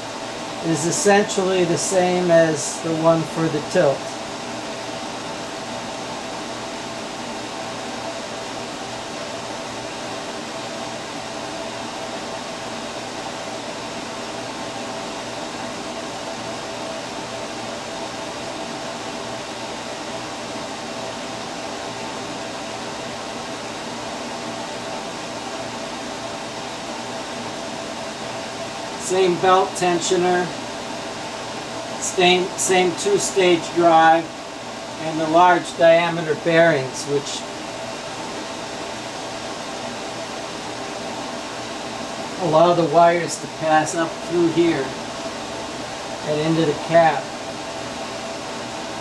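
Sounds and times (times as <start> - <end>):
faint hum tones: 0.0 - 49.0
fan whir: 0.0 - 49.0.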